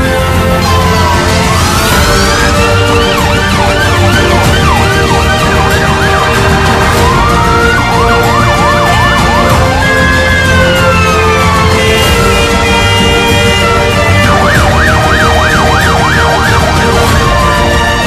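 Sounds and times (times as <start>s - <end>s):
background music: 0.0s - 18.0s
emergency vehicle sirens: 0.0s - 18.0s.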